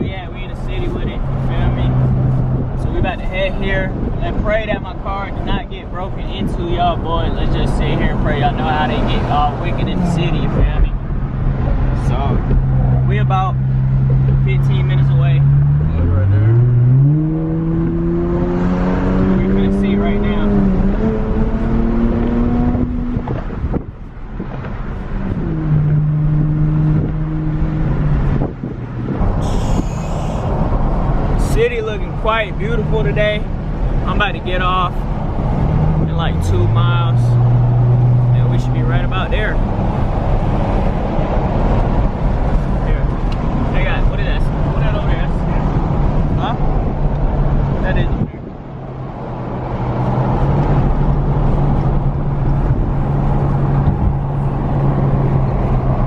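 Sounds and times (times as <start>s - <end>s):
tyre and wind noise: 0.0s - 19.5s, 20.1s - 56.0s
car engine rumble: 0.0s - 56.0s
road noise: 0.0s - 56.0s.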